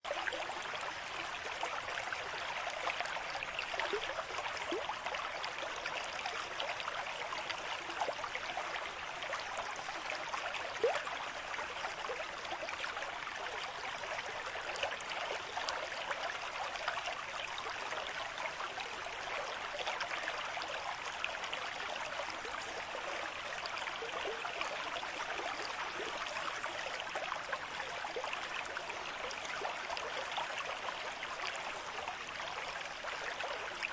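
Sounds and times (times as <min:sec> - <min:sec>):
stream babbling: 0:00.1 - 0:33.9.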